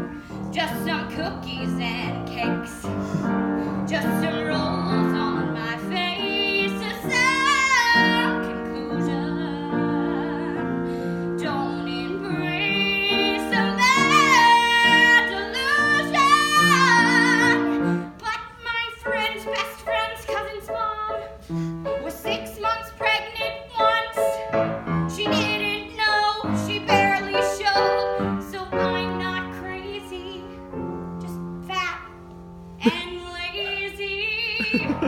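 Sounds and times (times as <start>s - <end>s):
piano accompaniment: 0.0s - 35.0s
woman singing: 0.0s - 35.0s.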